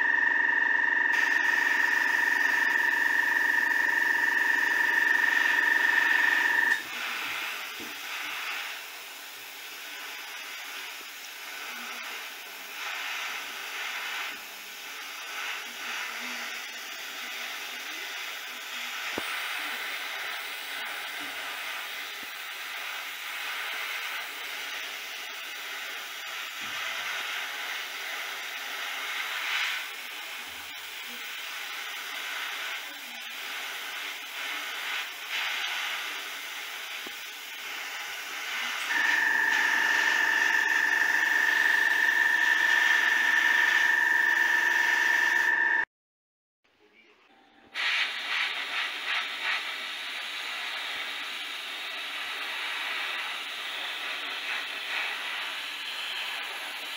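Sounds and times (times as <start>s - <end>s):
airbrush hissing: 1.1s - 45.8s, 47.8s - 56.9s.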